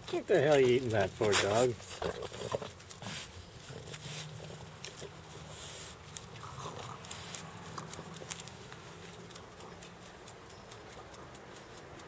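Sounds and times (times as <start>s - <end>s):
dog moving on mulch: 0.0s - 12.0s.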